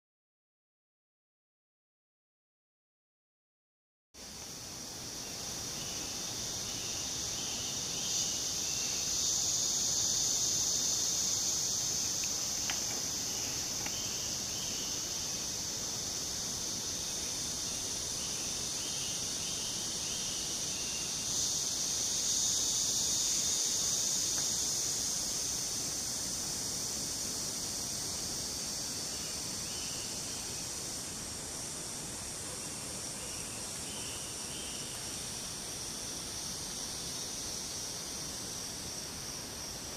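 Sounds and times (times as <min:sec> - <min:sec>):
insect chorus buzzing: 0:04.2 - 0:39.9.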